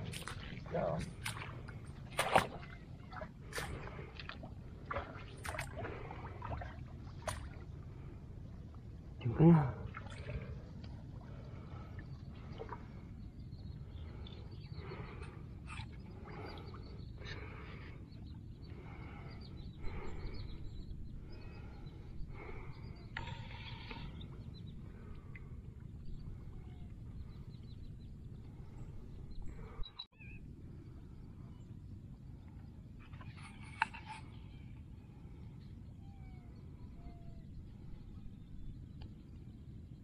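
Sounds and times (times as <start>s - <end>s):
low wind rumble on microphone: 0.0s - 40.0s.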